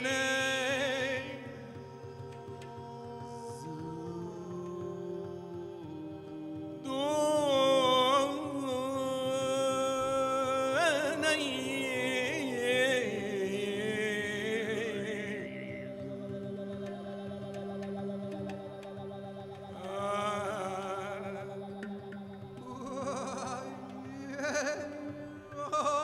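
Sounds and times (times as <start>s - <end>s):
person singing with vibrato: 0.0s - 26.0s.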